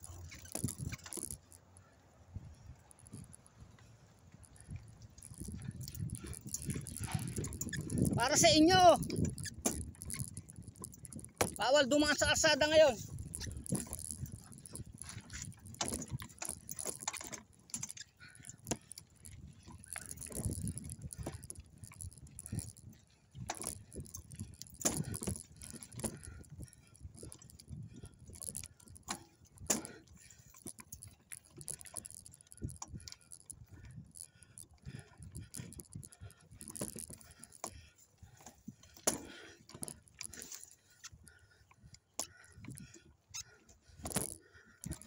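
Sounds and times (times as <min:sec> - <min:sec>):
bike parts rattling and clinking: 0:00.0 - 0:45.0.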